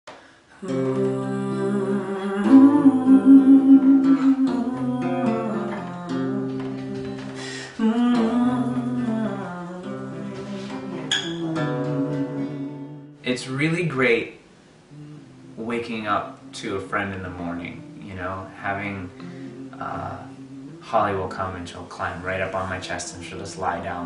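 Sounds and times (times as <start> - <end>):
acoustic guitar: 0.1 - 24.0
hummed melody notes: 0.6 - 13.6, 14.9 - 24.0.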